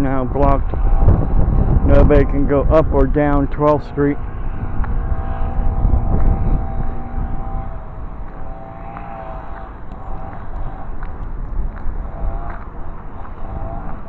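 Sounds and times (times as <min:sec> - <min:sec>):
heavy engine running: 0:00.0 - 0:14.0
wind buffeting microphone: 0:00.0 - 0:14.0.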